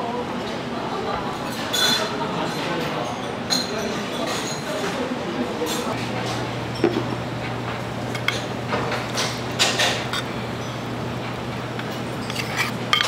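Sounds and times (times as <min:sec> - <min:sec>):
dishes and utensils clinking: 0:01.4 - 0:05.0, 0:05.6 - 0:13.0.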